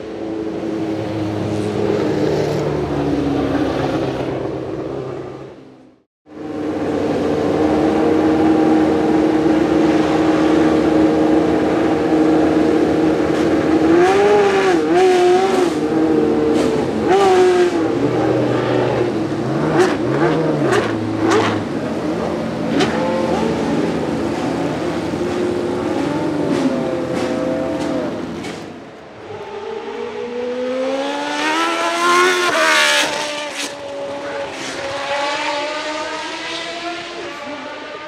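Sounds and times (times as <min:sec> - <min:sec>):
racing car engine revving: 0:06.7 - 0:38.0.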